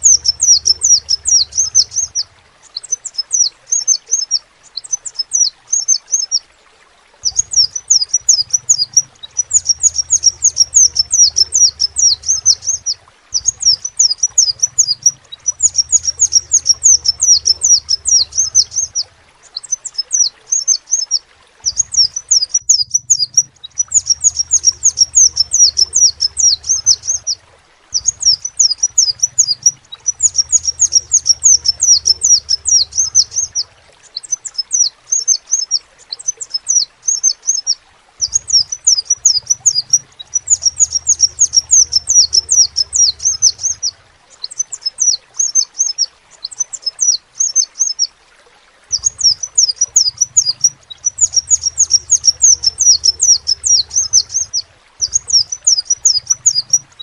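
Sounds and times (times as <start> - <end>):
bird twittering: 0.0 - 6.4, 7.2 - 48.1, 48.9 - 57.0.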